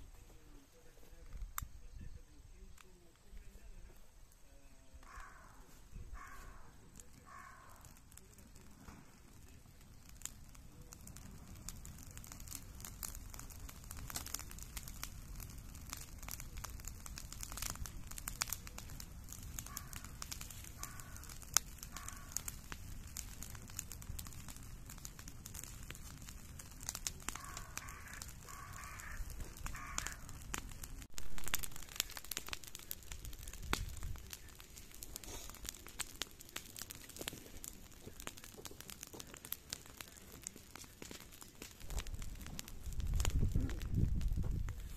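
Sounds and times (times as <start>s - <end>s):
fire crackling and popping: 0.0s - 44.9s
rush of flame: 6.2s - 44.9s.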